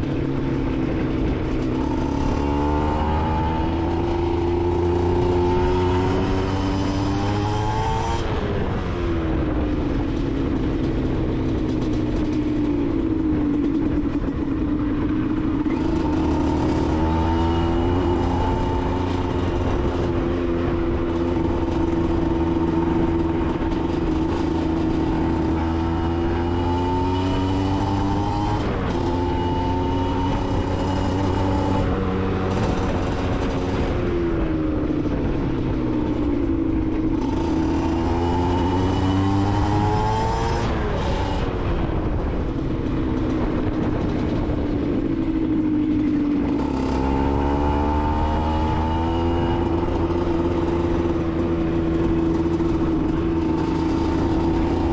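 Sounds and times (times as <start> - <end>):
two-stroke motorcycle engine: 0.0 - 54.9.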